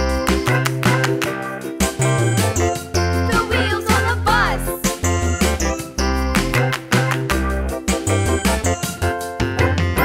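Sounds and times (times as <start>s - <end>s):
upbeat children's electronic music: 0.0s - 10.0s.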